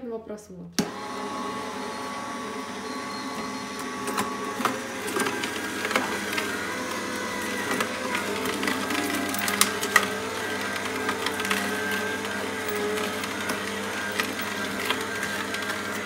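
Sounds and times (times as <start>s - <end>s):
juicer motor humming: 0.8s - 16.0s.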